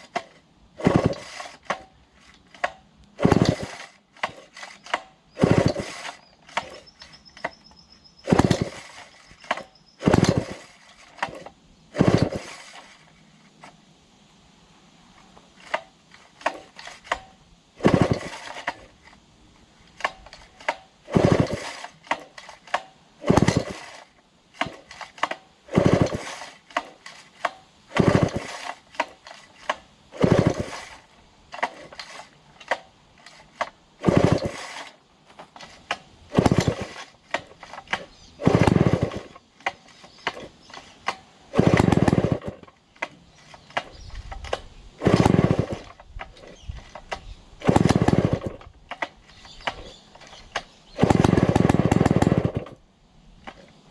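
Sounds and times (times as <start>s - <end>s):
chainsaw pull-start bursts: 0.0s - 13.8s, 15.2s - 19.2s, 19.8s - 53.9s.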